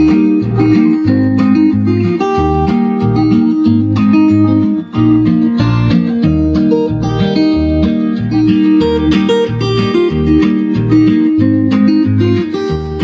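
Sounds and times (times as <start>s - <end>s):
guitar instrumental music: 0.0s - 13.0s
repeating bass line: 0.0s - 13.0s.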